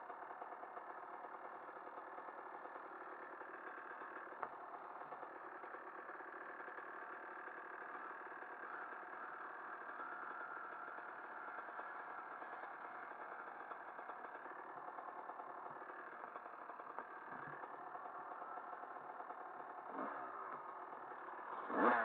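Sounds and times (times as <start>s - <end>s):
distant dirt bike engine: 0.0s - 22.0s.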